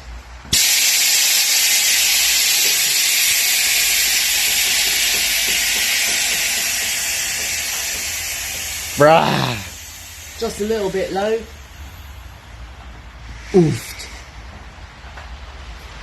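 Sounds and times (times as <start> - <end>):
air hissing from suspension: 0.4 - 14.5.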